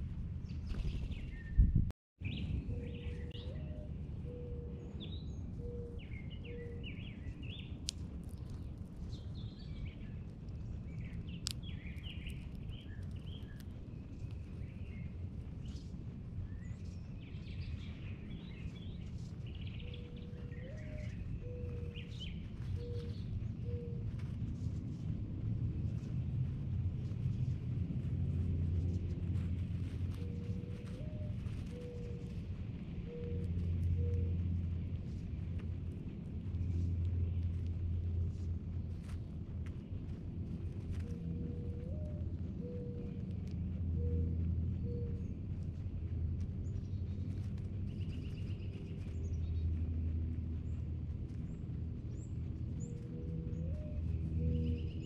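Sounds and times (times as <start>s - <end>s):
low background rumble: 0.0s - 55.0s
birds chirping: 0.4s - 24.4s, 25.9s - 55.0s.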